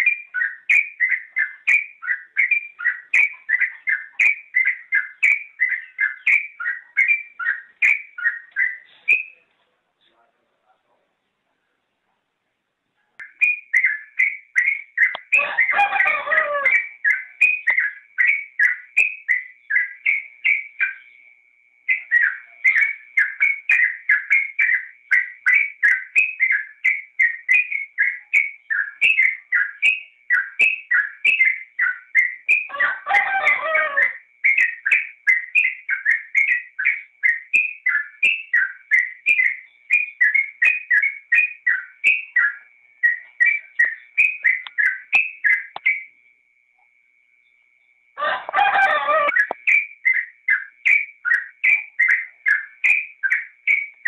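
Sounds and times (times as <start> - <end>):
bird singing high chirping notes: 0.0 - 9.5, 13.2 - 46.2, 48.2 - 54.0.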